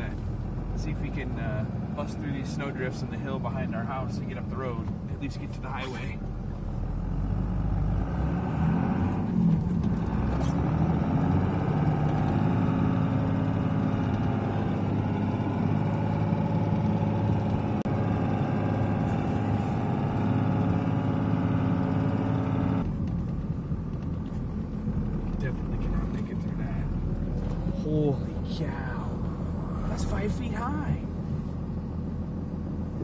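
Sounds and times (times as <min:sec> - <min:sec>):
vehicle engine labouring in snow: 0:00.0 - 0:33.0.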